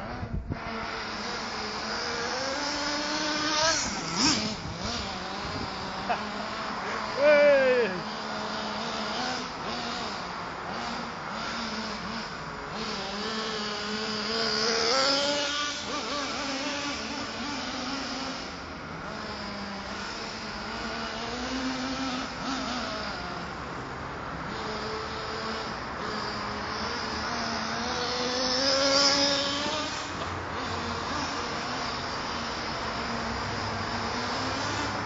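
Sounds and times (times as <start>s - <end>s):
rc truck engine revving: 0.0s - 35.0s.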